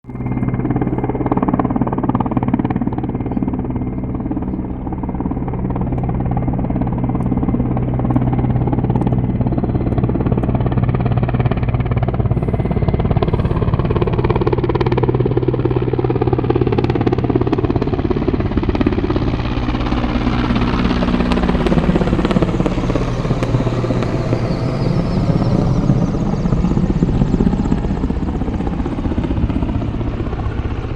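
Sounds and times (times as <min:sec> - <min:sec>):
helicopter flying: 0:00.0 - 0:30.9.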